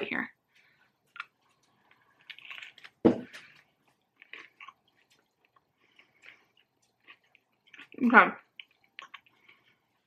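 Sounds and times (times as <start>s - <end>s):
soft crunchy chewing: 0.4s - 10.0s.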